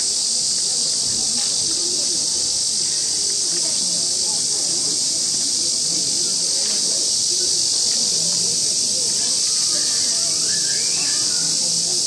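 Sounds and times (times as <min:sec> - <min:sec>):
cicadas chorus: 0:00.0 - 0:12.0
faint voices murmuring: 0:00.0 - 0:12.0.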